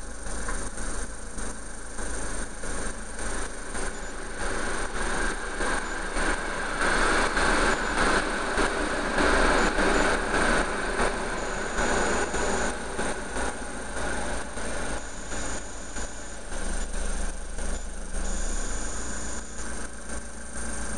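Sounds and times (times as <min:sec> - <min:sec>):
tractor diesel engine idling: 0:00.0 - 0:20.9
train passing: 0:03.0 - 0:20.6.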